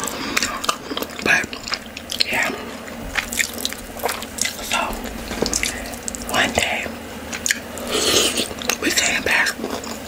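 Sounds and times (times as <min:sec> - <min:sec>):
wet chewing and lip smacks: 0:00.0 - 0:10.0.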